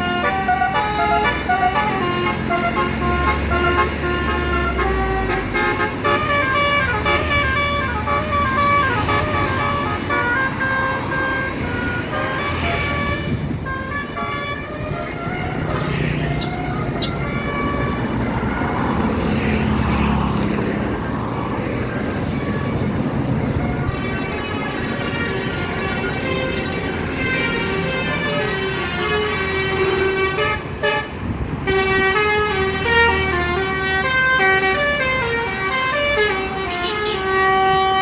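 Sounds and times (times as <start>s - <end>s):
musical bus air horn: 0.0s - 18.8s, 22.4s - 38.0s
bus engine: 0.0s - 38.0s
traffic noise: 0.0s - 38.0s.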